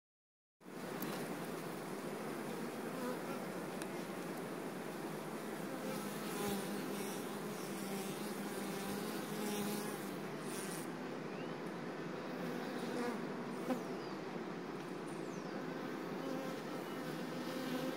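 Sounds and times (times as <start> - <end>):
nearby bee droning: 0.8 - 14.5, 15.3 - 17.9.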